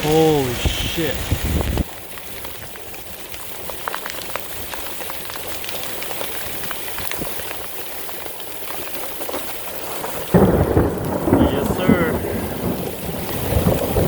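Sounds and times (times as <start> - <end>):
heavy rain on car roof: 0.0 - 14.0.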